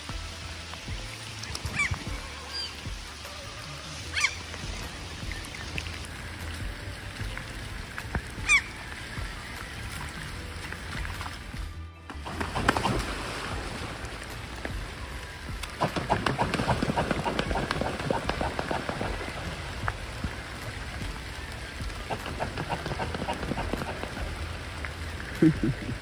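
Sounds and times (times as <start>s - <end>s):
rain pattering on water: 0.0s - 26.0s
swan splashing and wingbeats: 0.0s - 26.0s.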